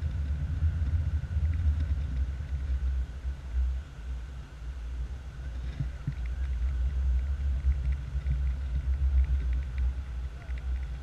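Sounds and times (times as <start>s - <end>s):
wind buffeting microphone: 0.0s - 3.8s, 5.2s - 11.0s.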